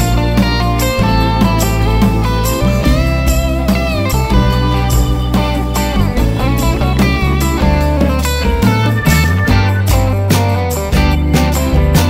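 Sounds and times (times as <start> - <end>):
bass guitar: 0.0 - 12.0
drum kit: 0.0 - 12.0
electric guitars: 0.0 - 12.0
hand percussion: 0.0 - 12.0.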